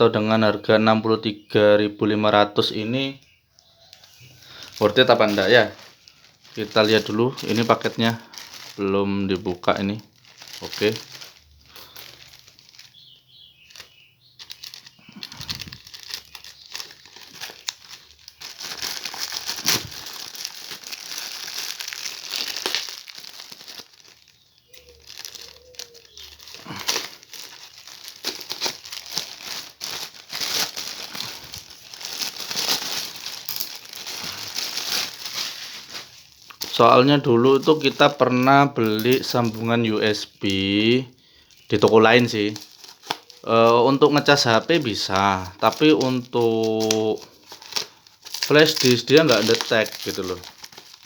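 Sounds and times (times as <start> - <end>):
parcel wrapping crinkling: 2.7 - 51.0
wrapping tearing: 3.6 - 51.0.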